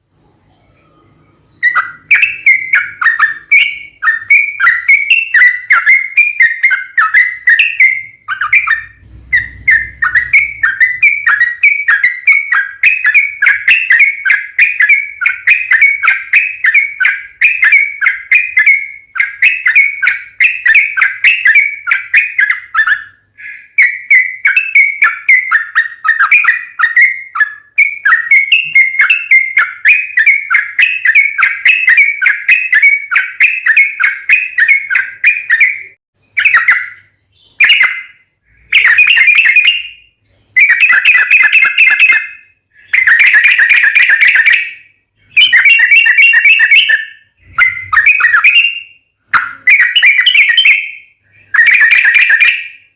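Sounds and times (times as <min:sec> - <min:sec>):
bulbul singing rolling song: 0:00.0 - 0:52.9.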